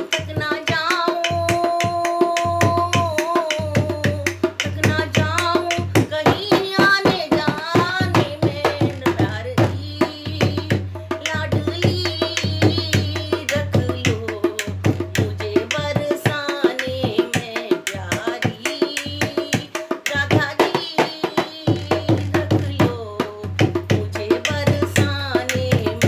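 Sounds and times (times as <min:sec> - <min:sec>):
hand drum beat: 0:00.0 - 0:26.0
woman singing devotional song: 0:00.0 - 0:26.0.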